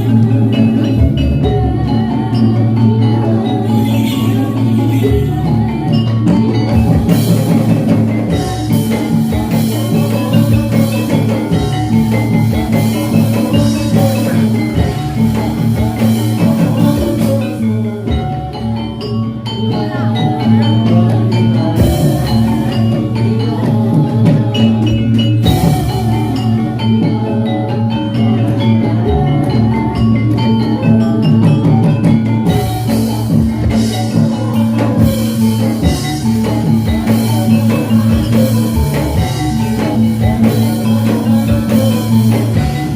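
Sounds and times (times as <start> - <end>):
drums: 0.0 - 42.9
metallophones playing fast melody: 0.0 - 42.9
steady low tones: 0.0 - 42.9.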